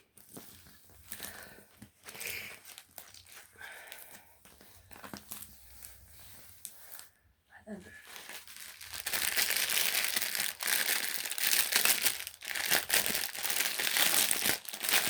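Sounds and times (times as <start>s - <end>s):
plastic packaging crinkling: 0.1s - 7.1s, 8.0s - 15.0s.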